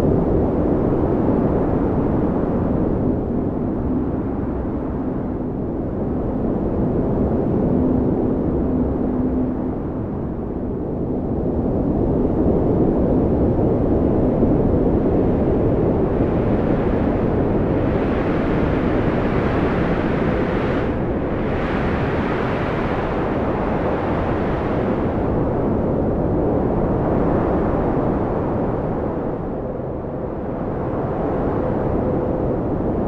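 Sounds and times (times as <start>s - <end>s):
strong wind blowing: 0.0s - 33.0s.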